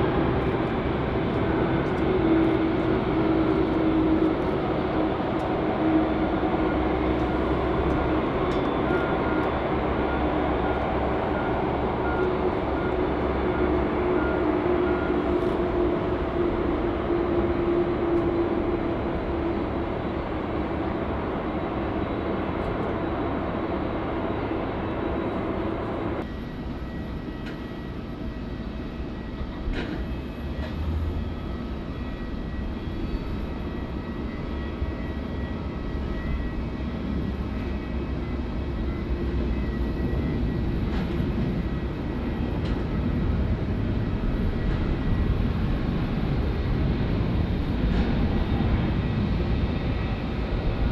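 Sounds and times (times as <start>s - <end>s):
low jet rumble: 0.0s - 26.4s, 31.0s - 50.9s
jet engine whine and rumble: 0.0s - 50.9s.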